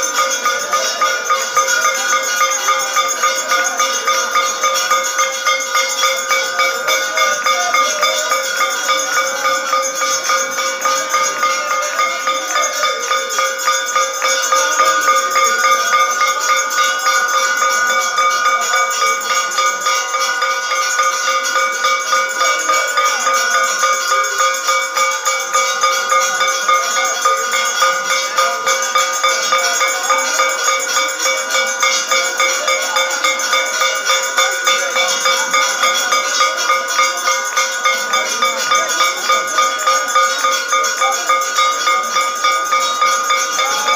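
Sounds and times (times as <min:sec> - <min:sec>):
hand bell ringing: 0:00.0 - 0:43.9.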